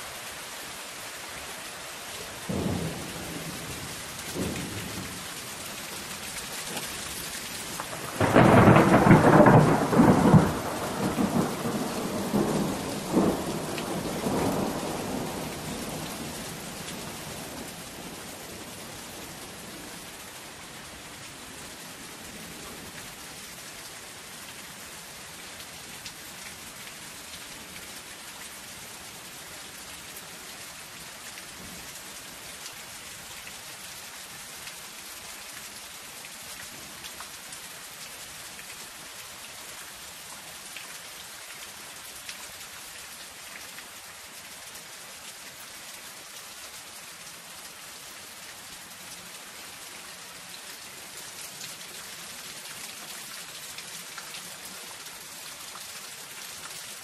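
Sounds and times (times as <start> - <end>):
light rain on metal sheeting: 0.0 - 57.0.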